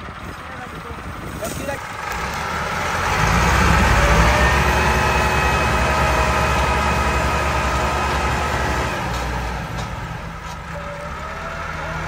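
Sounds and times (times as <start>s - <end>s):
tractor diesel engines rumbling: 0.0s - 12.0s.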